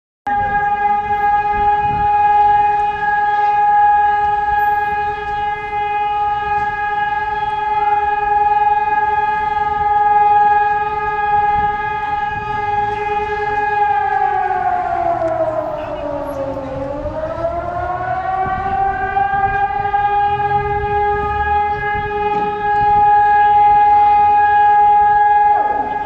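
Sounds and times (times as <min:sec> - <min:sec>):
warning siren steady tone: 0:00.3 - 0:26.0.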